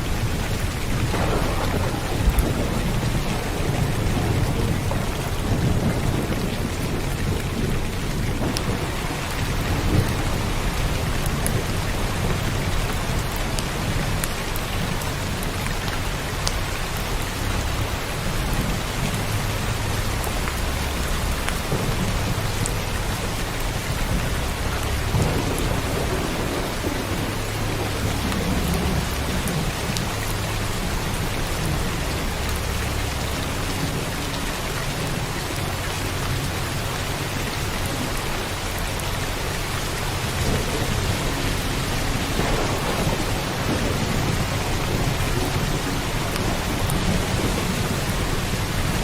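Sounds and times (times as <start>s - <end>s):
rolling thunder rumble: 0.0s - 49.0s
steady heavy rain: 0.0s - 49.0s.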